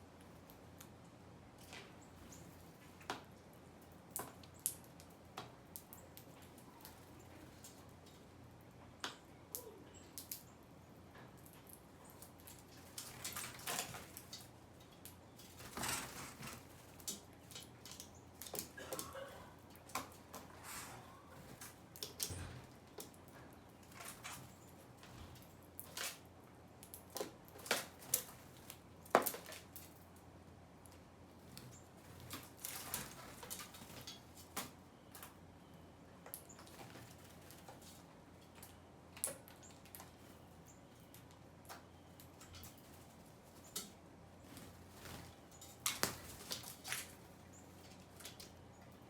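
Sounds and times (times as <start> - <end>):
small birds clicking and chirping: 0.1 - 49.0.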